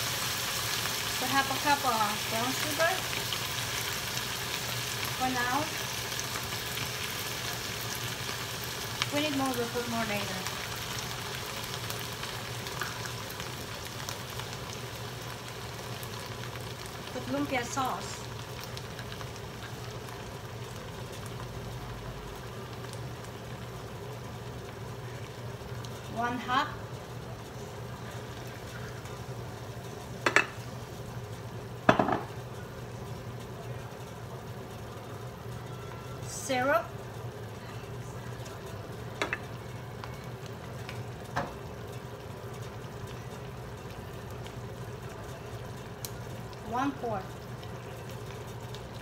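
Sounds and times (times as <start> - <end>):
food sizzling and bubbling in a pan: 0.0 - 49.0
sauce simmering in a skillet: 0.0 - 49.0.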